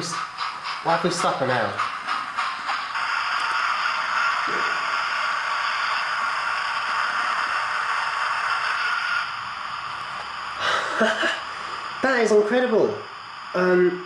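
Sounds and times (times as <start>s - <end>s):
model steam engine hiss: 0.0s - 14.0s.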